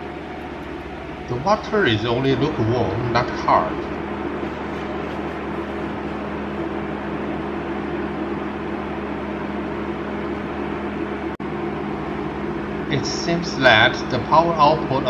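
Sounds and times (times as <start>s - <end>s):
cooling fan whirring: 0.0s - 15.0s
low electrical hum: 0.0s - 15.0s.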